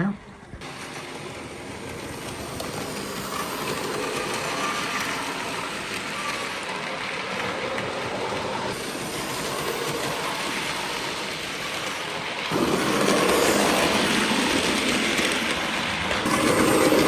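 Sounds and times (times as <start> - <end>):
model train running on track: 0.6 - 17.0.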